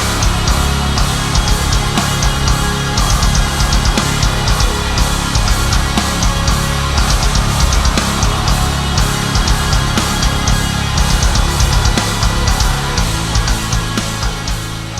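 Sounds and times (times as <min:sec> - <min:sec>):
distorted guitar: 0:00.0 - 0:14.9
driving drum kit: 0:00.0 - 0:14.9
heavy metal music: 0:00.0 - 0:14.9.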